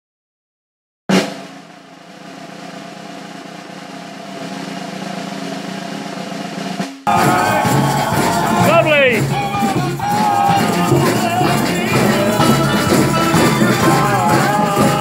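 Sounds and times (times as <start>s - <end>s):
drum roll: 1.1s - 15.0s.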